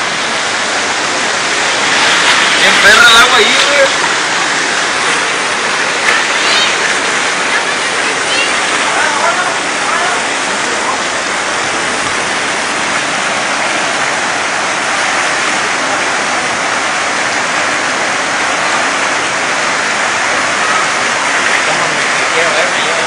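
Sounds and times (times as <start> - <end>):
floodwater rushing down street: 0.0 - 23.0
heavy rain: 0.0 - 23.0.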